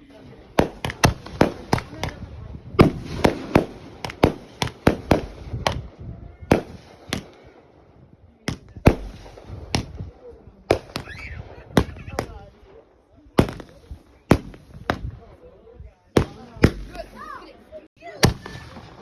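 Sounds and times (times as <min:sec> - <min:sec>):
fireworks bangs: 0:00.0 - 0:15.4, 0:16.1 - 0:19.0.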